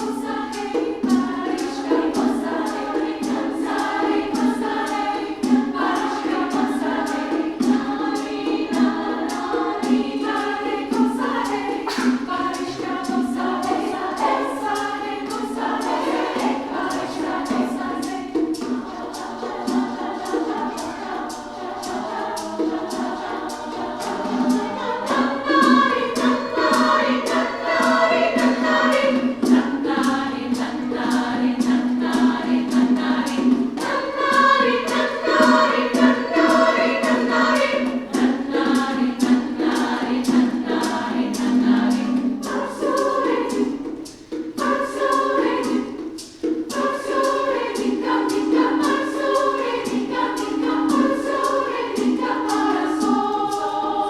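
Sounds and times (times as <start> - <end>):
steady percussion beat: 0.0 - 54.0
women's chorus singing: 0.0 - 54.0.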